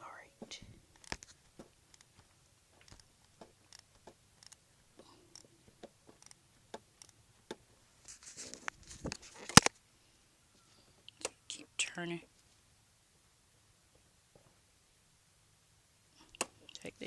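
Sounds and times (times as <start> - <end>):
hiss and rustling: 0.0 - 17.0.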